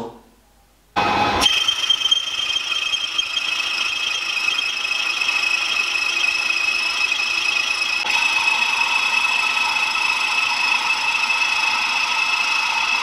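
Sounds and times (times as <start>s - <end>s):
lathe cutting steel squeal: 1.4s - 13.0s.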